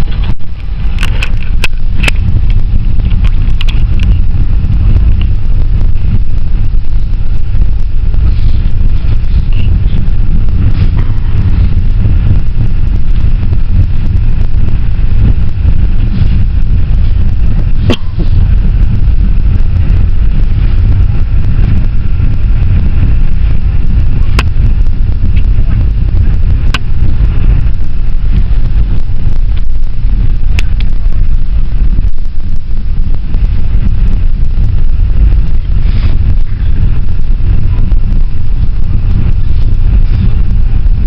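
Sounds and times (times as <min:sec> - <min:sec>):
faint rattles: 0:00.0 - 0:41.0
road and engine rumble: 0:00.0 - 0:41.0.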